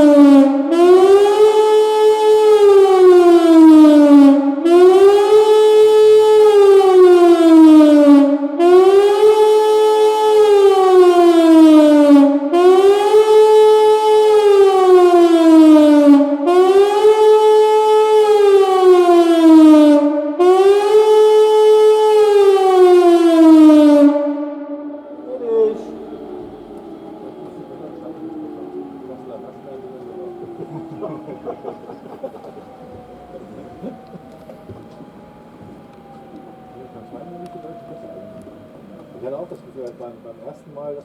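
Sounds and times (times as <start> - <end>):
rising and falling siren wail: 0.0 - 41.0.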